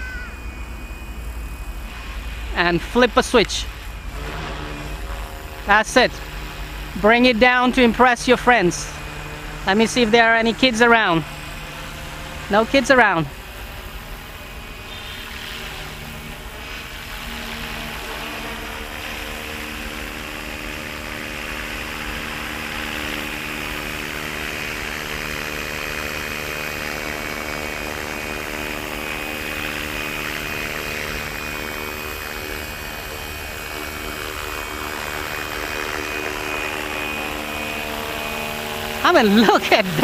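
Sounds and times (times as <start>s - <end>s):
motor and gear whine: 0.0s - 40.0s
rotor humming: 0.0s - 40.0s.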